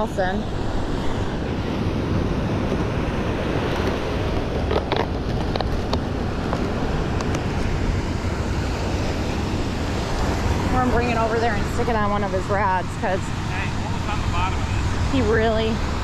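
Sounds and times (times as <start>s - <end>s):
wind noise on microphone: 0.0s - 13.7s
surf on the beach: 0.0s - 16.0s.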